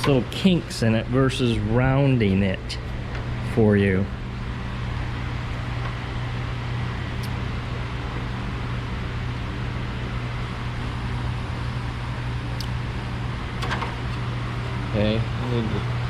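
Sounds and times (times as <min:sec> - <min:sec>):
low machine hum with hiss: 0:00.0 - 0:16.0.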